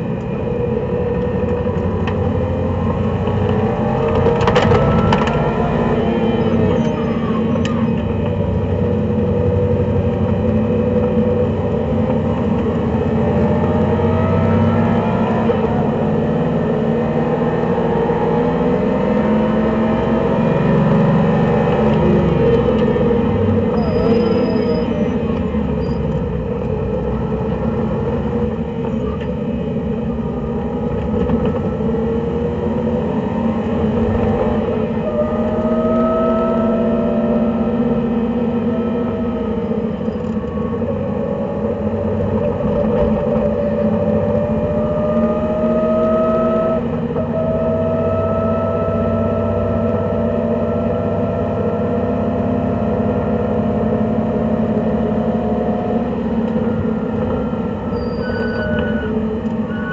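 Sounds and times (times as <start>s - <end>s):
race car engine running hard: 0.0s - 59.9s
tyre and road noise: 0.0s - 59.9s.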